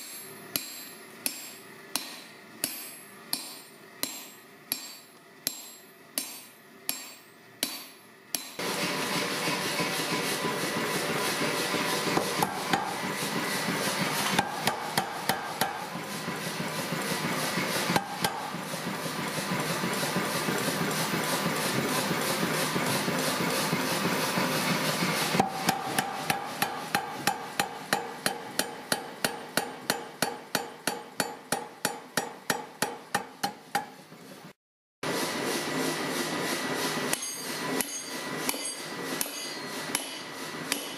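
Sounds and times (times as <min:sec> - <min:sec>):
power hammer pounding steel: 0:00.0 - 0:34.0, 0:35.0 - 0:40.9.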